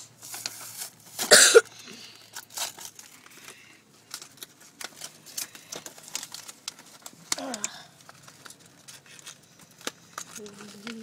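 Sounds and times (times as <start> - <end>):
plastic crinkling: 0.0 - 11.0
packaging ripping open: 2.2 - 11.0.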